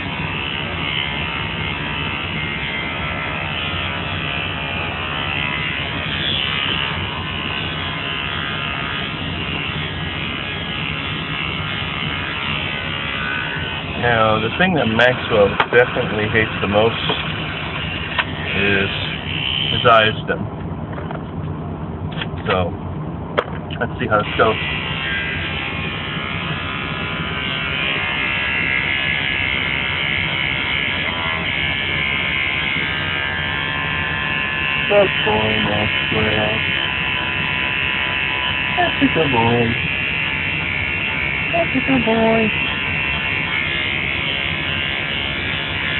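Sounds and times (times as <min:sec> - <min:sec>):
electric clippers buzzing: 0:00.0 - 0:20.4, 0:24.0 - 0:45.9.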